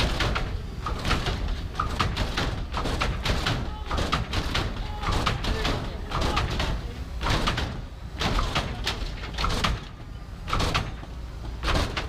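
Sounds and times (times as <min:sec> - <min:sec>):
hydraulic clanks and thumps: 0:00.0 - 0:12.0.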